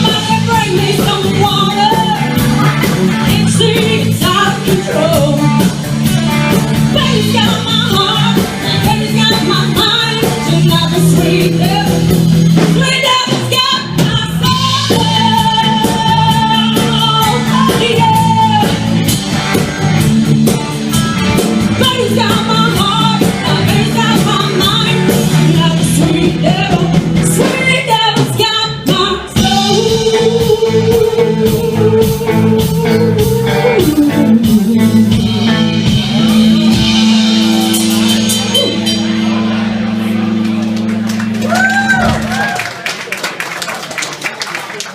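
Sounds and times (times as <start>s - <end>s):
person singing: 0.0s - 18.9s, 21.8s - 39.6s
electric guitar long notes: 0.0s - 42.6s
bass and drums: 0.0s - 42.8s.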